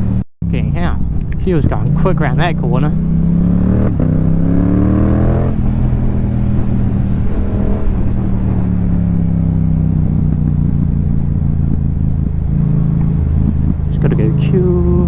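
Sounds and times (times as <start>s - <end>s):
gear change: 0.0s - 15.0s
motorcycle engine revving: 0.0s - 15.0s.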